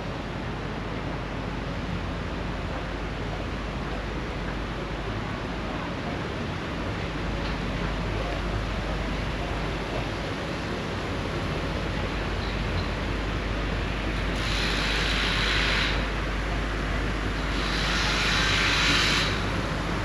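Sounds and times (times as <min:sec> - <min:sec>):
sea and wind rumble: 0:00.0 - 0:20.0.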